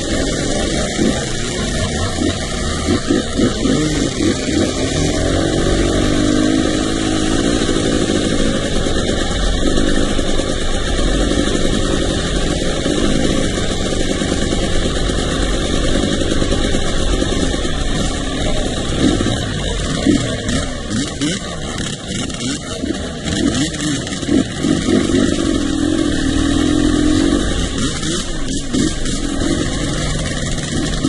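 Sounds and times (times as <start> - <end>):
dirt bike engine: 0.0 - 31.0.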